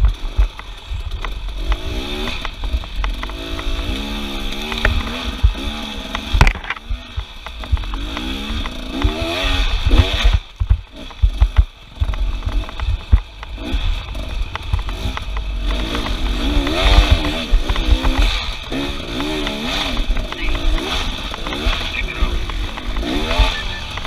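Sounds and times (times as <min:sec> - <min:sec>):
heavy low rumbling and thumping: 0:00.0 - 0:24.0
small off-road engine revving: 0:00.0 - 0:24.0.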